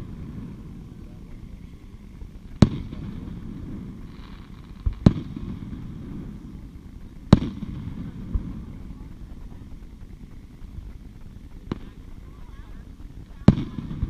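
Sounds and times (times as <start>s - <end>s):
fireworks booming: 0.0s - 14.0s
low background noise: 0.0s - 14.0s.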